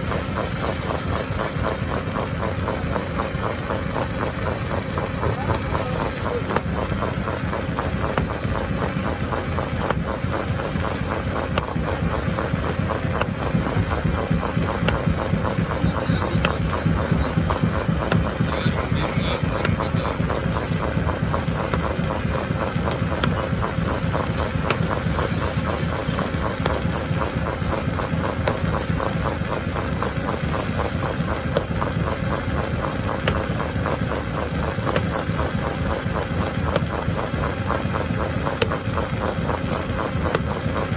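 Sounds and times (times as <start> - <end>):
constant hum: 0.0 - 40.9
stone crusher rattling: 4.9 - 40.9.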